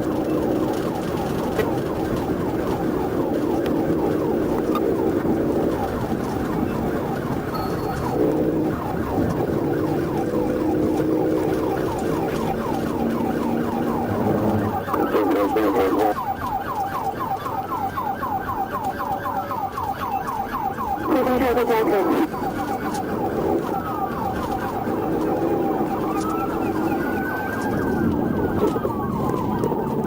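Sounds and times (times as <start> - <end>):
low rough warbling siren tone: 0.0 - 30.0
police siren fast yelp: 0.0 - 30.0.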